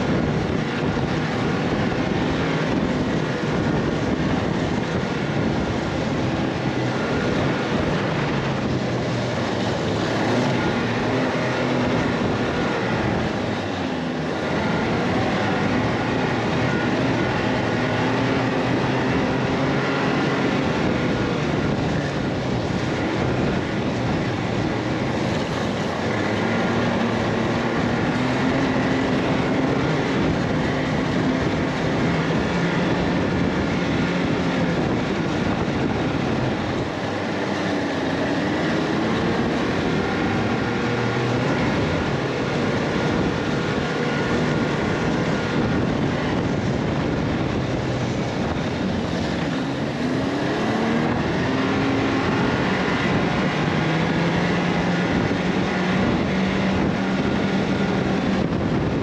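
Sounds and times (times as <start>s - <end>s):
loud rushing noise: 0.0s - 59.0s
vehicle engine revving: 0.0s - 59.0s.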